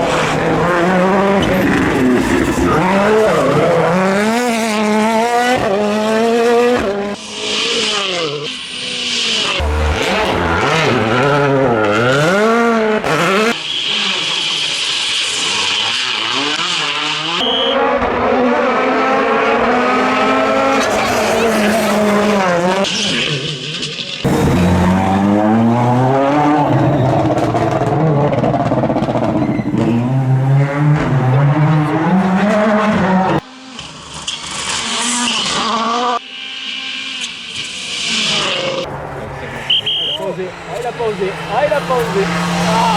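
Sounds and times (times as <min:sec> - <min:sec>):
rally car engines revving hard: 0:00.0 - 0:42.9.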